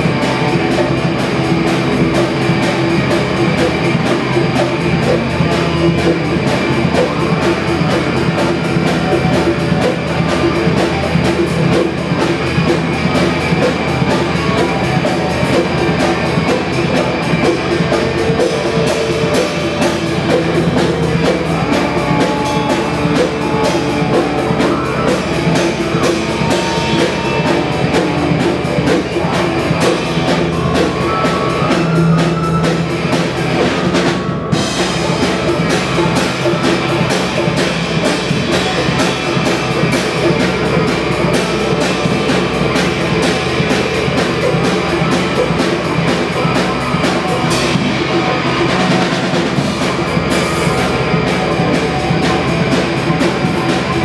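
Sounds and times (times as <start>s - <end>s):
drum kit: 0.0s - 54.0s
electric guitar: 0.0s - 54.0s
keyboard: 0.0s - 54.0s.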